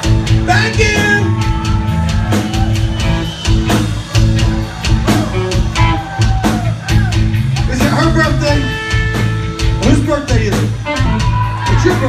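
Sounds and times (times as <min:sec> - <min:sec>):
drums steady beat: 0:00.0 - 0:12.0
rock band playing loudly: 0:00.0 - 0:12.0.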